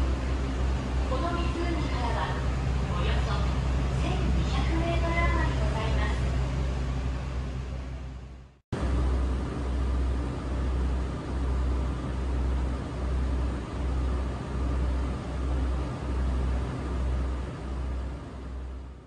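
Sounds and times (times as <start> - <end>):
boat engine throb: 0.0 - 19.0.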